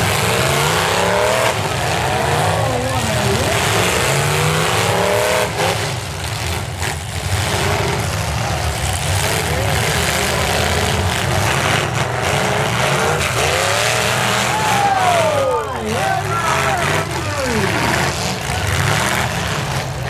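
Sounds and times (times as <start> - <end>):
car engines revving hard: 0.0 - 20.0.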